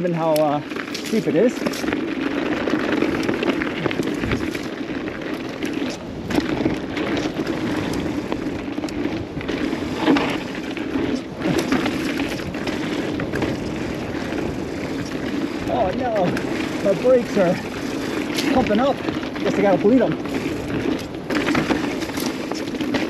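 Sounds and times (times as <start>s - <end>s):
tyres crunching on gravel: 0.0s - 23.0s
bike knocks and rattles: 0.2s - 23.0s.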